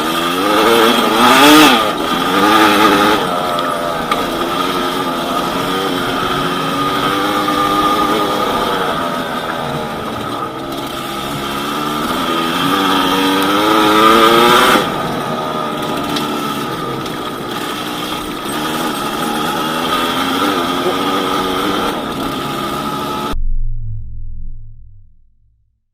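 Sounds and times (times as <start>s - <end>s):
two-stroke motorcycle engine: 0.0s - 23.4s.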